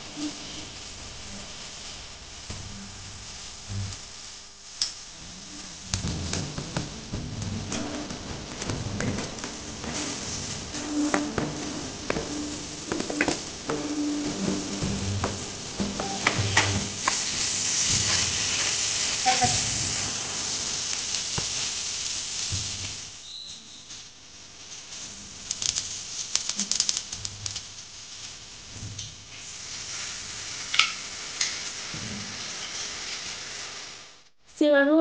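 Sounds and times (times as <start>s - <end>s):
food sizzling in hot oil: 0.0s - 34.3s
oil crackling and popping: 0.1s - 34.3s.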